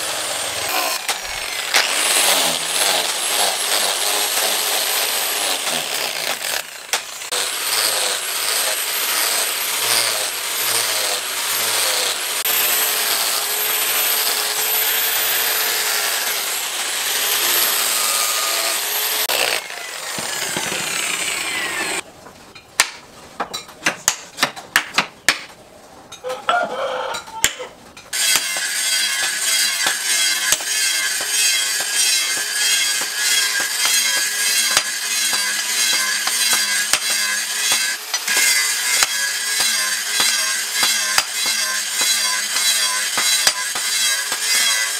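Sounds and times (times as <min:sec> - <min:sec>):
angle grinder sanding wood: 0:00.0 - 0:22.0, 0:28.2 - 0:44.9.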